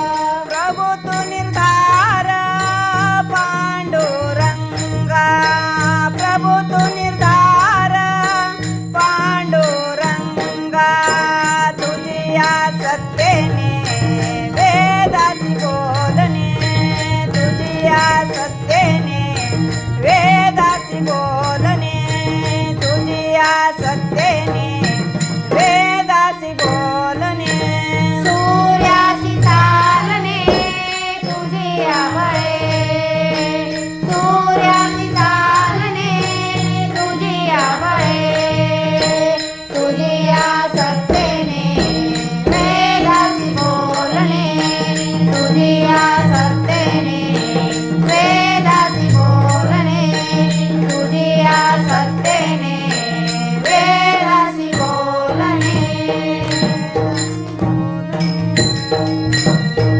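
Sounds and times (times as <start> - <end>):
woman singing: 0.0 - 57.1.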